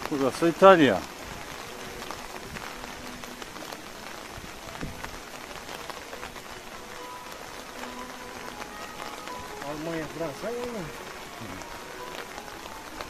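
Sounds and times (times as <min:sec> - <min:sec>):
rain on pavement and grass: 0:00.0 - 0:13.0
raindrop ticks: 0:00.0 - 0:13.0.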